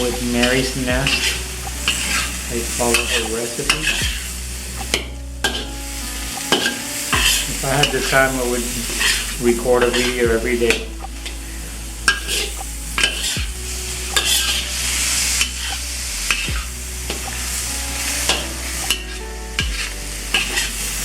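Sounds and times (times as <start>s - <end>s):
food sizzling in a pan: 0.0s - 10.1s, 11.5s - 21.0s.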